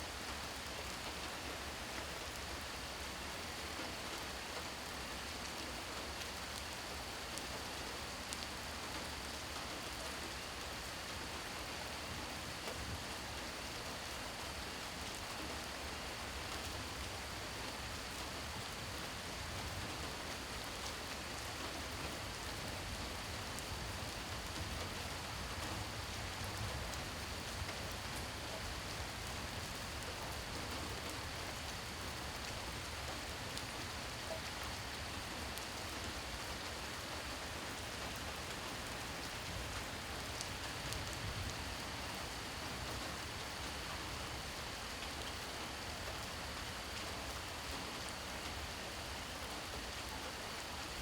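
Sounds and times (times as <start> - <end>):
rain falling: 0.0 - 51.0.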